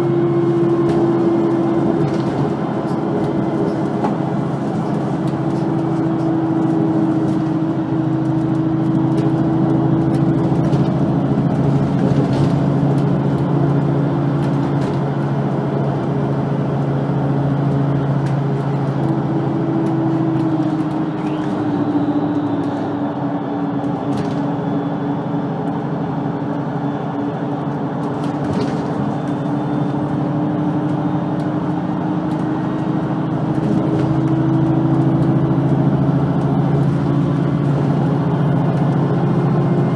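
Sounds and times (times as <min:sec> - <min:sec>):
city bus engine running: 0:00.0 - 0:39.9.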